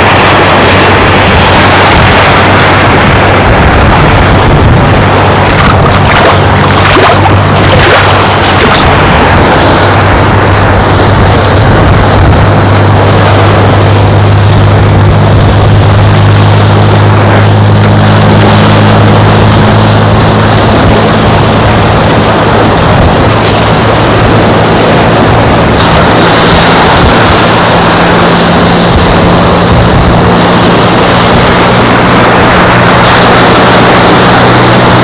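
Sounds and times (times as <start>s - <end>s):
boat engine droning: 0.0s - 35.0s
surf: 0.0s - 35.0s
wind: 0.0s - 35.0s.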